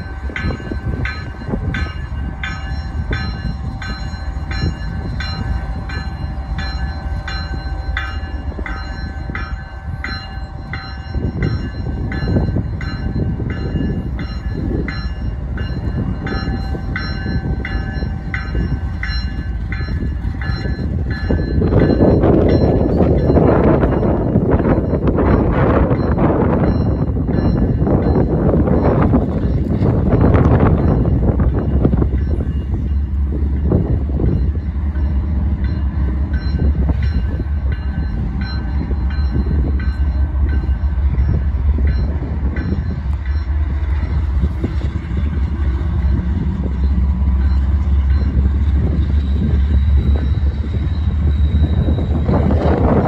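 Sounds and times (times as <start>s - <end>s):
diesel locomotive rumble: 0.0s - 53.0s
locomotive bell ringing: 0.0s - 53.0s.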